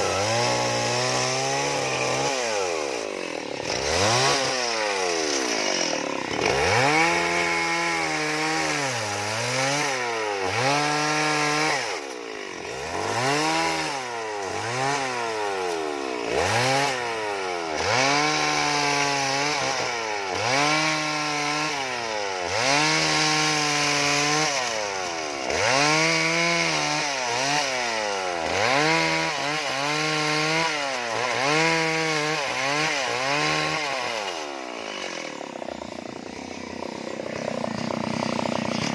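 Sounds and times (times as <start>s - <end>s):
chainsaw revving while carving wood: 0.0s - 38.9s.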